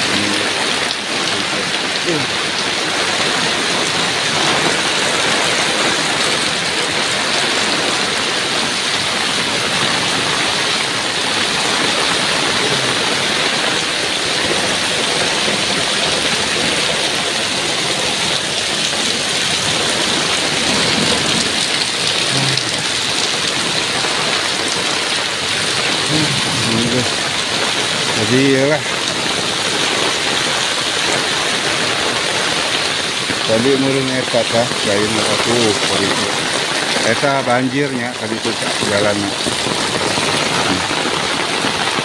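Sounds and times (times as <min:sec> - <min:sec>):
heavy rain splashing on water: 0:00.0 - 0:42.0.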